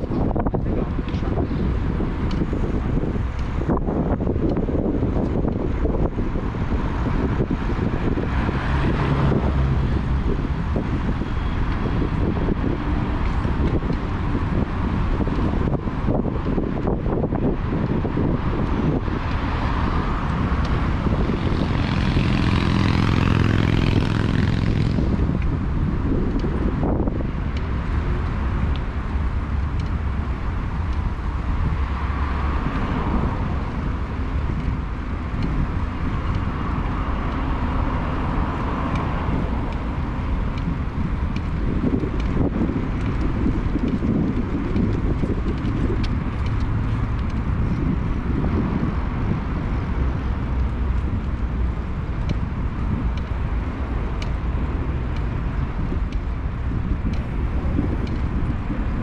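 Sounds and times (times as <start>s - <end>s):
city road traffic: 0.0s - 59.0s
wind rumbling on microphone: 0.0s - 59.0s.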